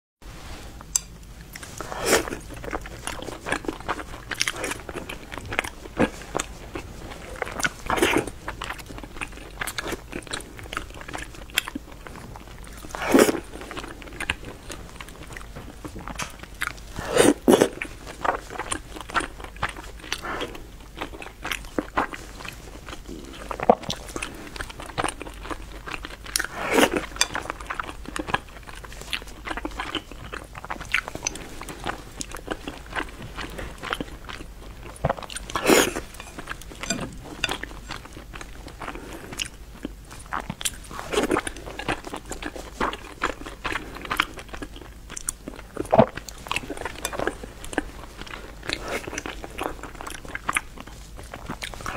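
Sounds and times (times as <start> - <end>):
chewing with wet mouth clicks: 0.9 - 51.9.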